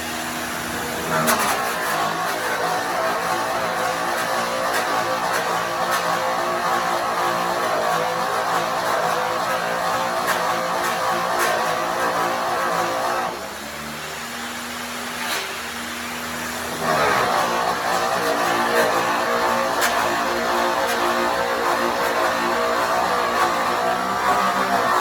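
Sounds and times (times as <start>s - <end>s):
electric polisher buffing metal: 0.0s - 13.4s, 16.1s - 25.0s.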